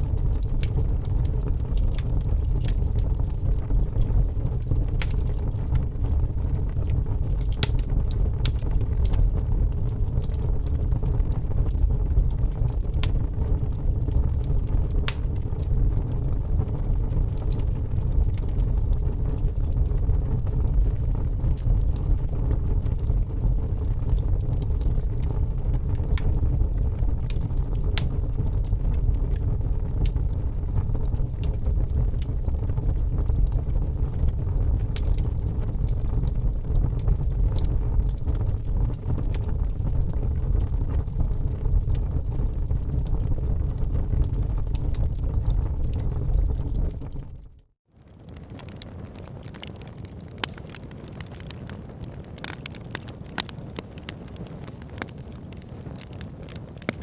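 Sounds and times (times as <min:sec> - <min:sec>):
low fire rumble: 0:00.0 - 0:57.0
wood fire crackling and popping: 0:00.0 - 0:57.0.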